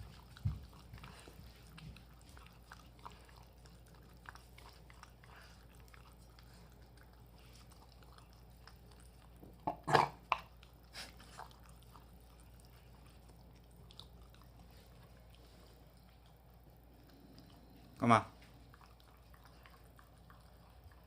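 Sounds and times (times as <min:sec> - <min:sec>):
dog chewing: 0:00.0 - 0:21.0.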